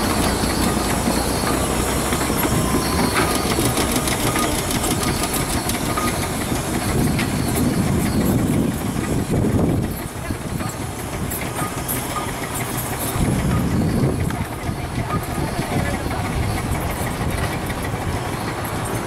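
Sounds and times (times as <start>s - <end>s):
mechanical clatter: 0.0s - 19.0s
steam engine exhaust beats: 0.0s - 19.0s.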